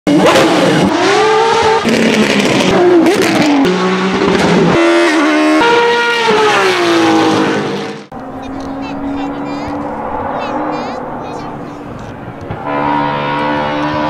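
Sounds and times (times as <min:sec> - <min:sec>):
racing car engines revving: 0:00.1 - 0:14.0.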